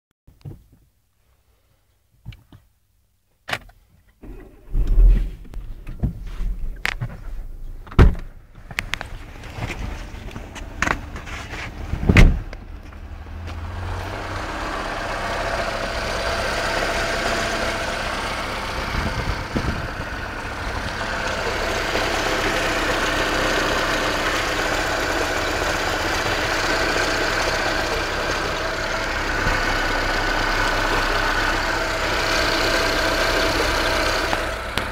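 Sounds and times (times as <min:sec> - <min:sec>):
car engine running: 0:04.2 - 0:34.9.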